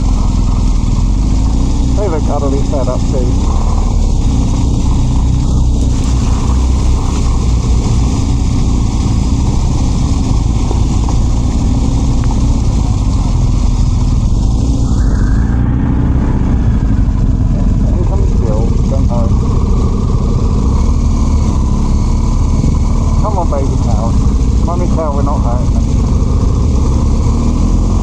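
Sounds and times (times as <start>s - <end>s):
motorcycle engine running: 0.0s - 28.0s
rush of wind noise: 0.0s - 28.0s.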